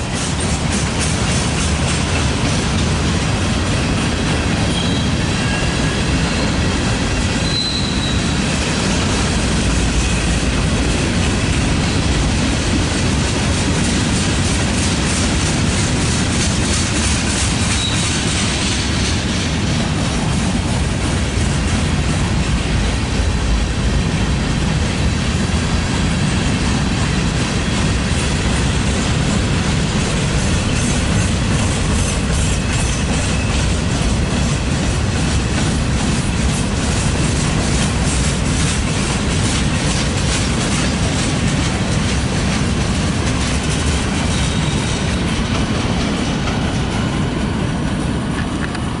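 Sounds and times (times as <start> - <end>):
freight train wheels on rails: 0.0 - 49.0
wheels clicking over rail joints: 0.0 - 49.0.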